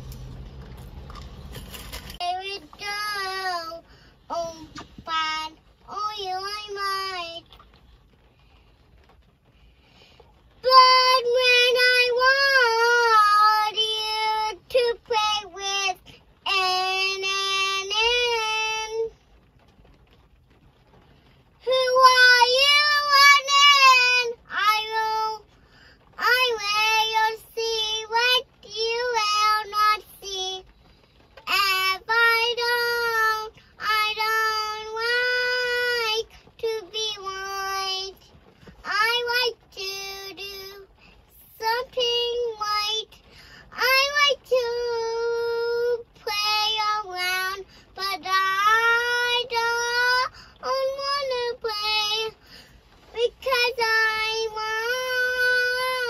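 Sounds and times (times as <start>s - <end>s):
girl singing in a high voice: 2.2s - 7.6s, 10.6s - 19.2s, 21.6s - 25.5s, 26.2s - 30.8s, 31.4s - 56.0s.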